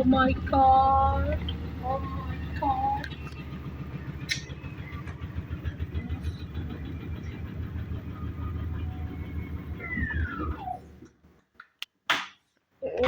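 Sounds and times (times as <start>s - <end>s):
washing machine rumbling: 0.0s - 11.4s.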